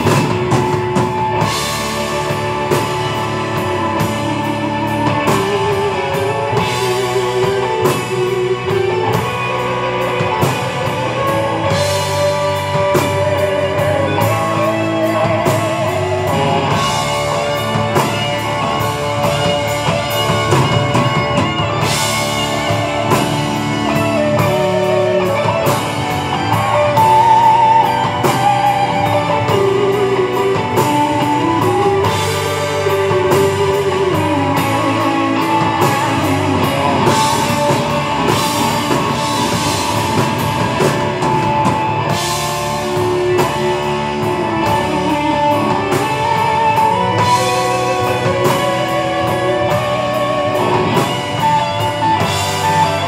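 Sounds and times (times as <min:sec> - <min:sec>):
drum kit: 0:00.0 - 0:53.0
electric guitars: 0:00.0 - 0:53.0.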